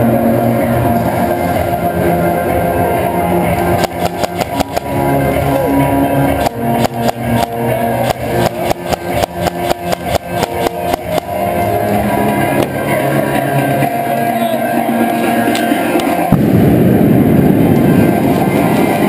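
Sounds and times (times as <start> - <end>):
rock music with guitar and drums: 0.0 - 19.0.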